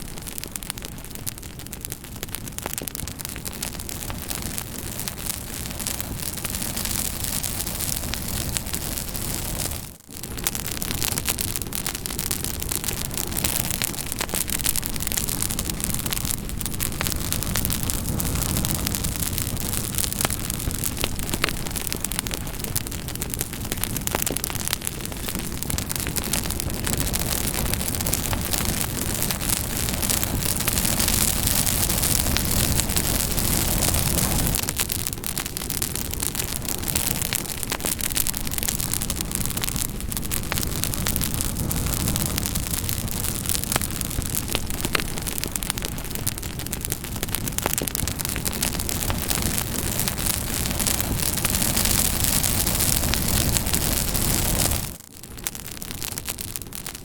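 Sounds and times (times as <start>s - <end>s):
fire hissing: 0.0s - 55.0s
campfire crackling and popping: 0.0s - 57.0s.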